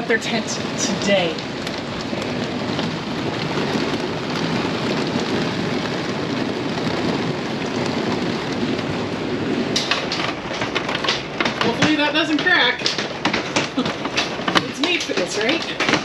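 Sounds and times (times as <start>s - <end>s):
hail clattering on roof and windows: 0.0s - 16.0s.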